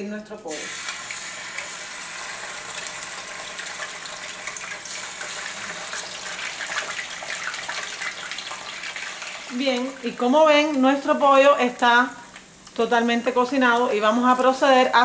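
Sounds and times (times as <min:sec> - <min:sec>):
chicken frying in hot oil: 0:00.4 - 0:15.0.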